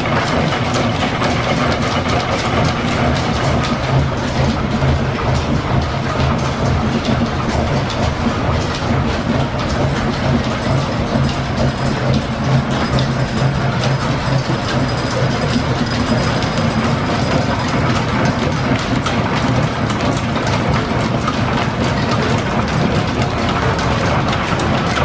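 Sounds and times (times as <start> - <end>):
steam engine mechanical clatter: 0.0 - 25.0
whir of belts and pulleys: 0.0 - 25.0.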